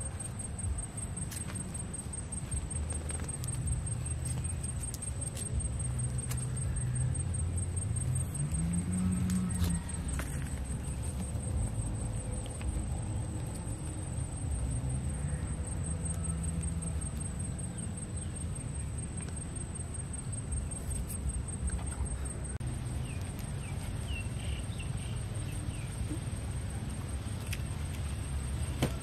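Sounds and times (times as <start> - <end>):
continuous high-pitched whine: 0.0 - 29.0
steady low rumble: 0.0 - 29.0.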